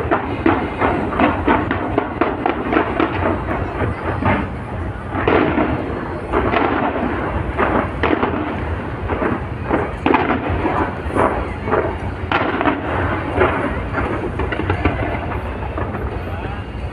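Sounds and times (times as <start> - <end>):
fireworks bangs: 0.0 - 16.9.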